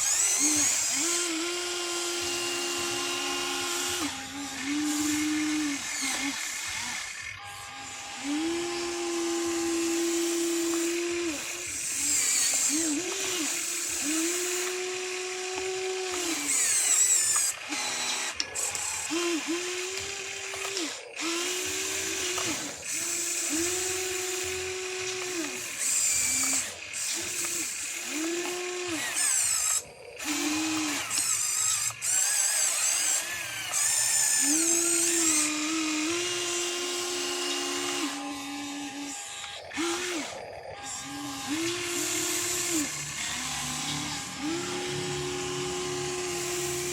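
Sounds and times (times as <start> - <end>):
thin high whirr: 0.0 - 46.9
toy electric motors whining: 0.0 - 46.9.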